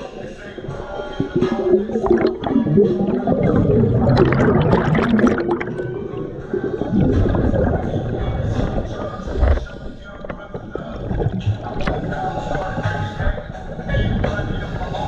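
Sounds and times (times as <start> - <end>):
underwater exhale bubbles gurgling: 0.0 - 15.0.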